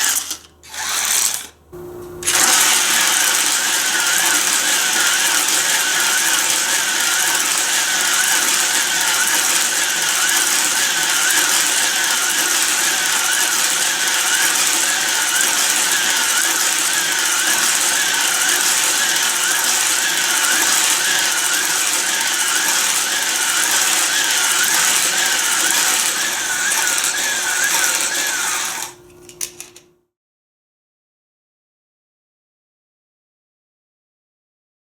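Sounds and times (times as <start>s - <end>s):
toy slot car motors whirring: 0.0s - 1.6s, 2.2s - 29.8s.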